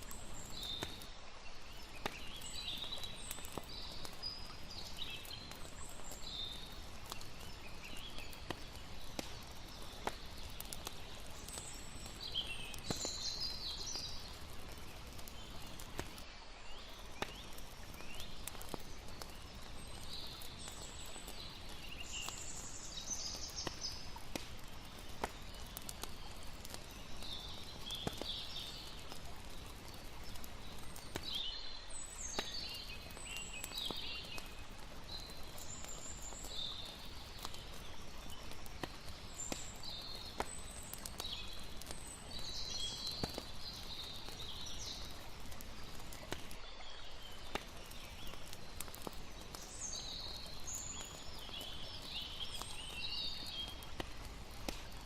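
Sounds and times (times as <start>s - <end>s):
birds chirping: 0.0s - 55.0s
campfire crackling: 0.0s - 55.0s
flowing water: 0.0s - 55.0s.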